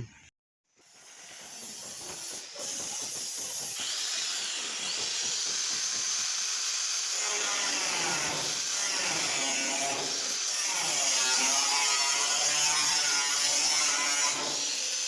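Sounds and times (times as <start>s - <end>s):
angle grinder cutting metal: 0.8s - 15.0s.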